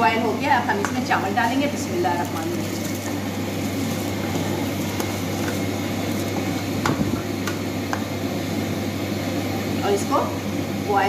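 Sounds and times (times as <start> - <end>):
steady low hum: 0.0 - 11.0
water at rolling boil: 0.0 - 11.0.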